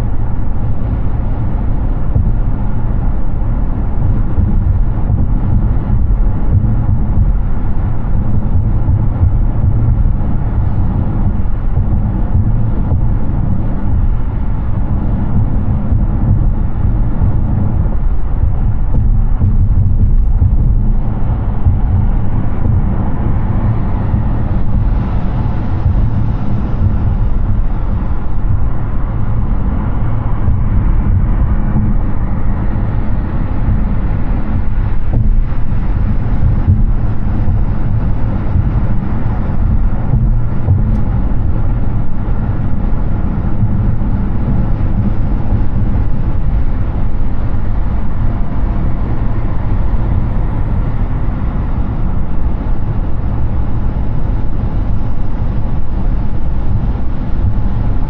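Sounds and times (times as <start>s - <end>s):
car tyre and wind noise: 0.0s - 58.0s.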